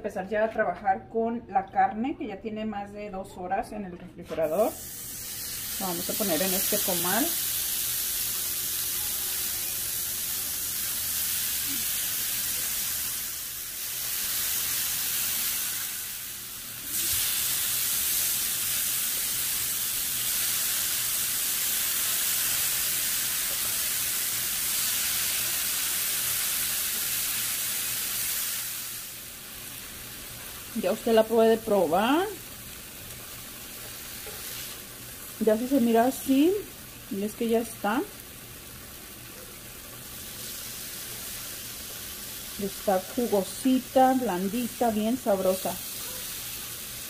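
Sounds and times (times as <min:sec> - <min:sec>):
chicken sizzling on a griddle: 0:04.7 - 0:47.0.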